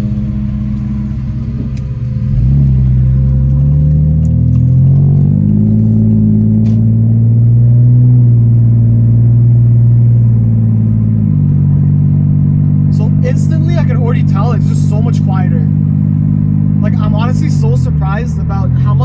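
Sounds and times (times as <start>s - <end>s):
car exhaust note: 0.0s - 19.0s.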